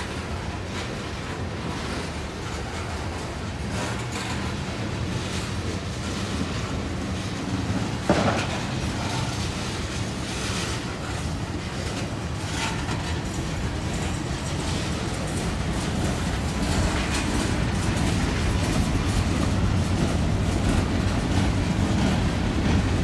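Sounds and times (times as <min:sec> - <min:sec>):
train wheels rumbling on rails: 0:00.0 - 0:23.0
wheels clicking over rail joints: 0:00.0 - 0:23.0.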